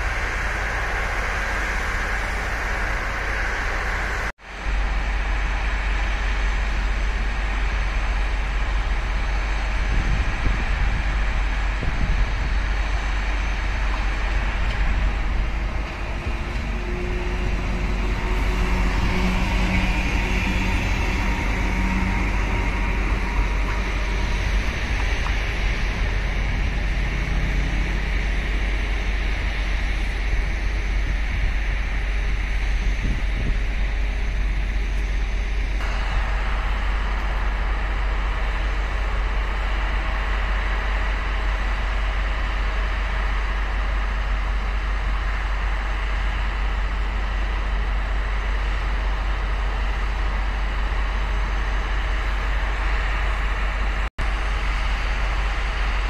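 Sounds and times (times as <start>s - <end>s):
electric locomotive pulling away: 0.0s - 56.0s
vehicle noise rumble and hiss: 0.0s - 56.0s.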